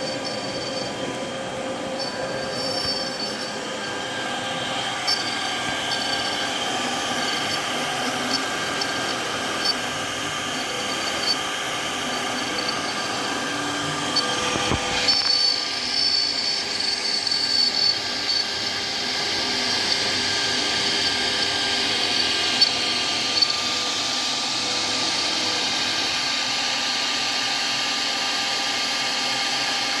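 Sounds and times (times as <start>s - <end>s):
spindle motor whining: 0.0s - 30.0s.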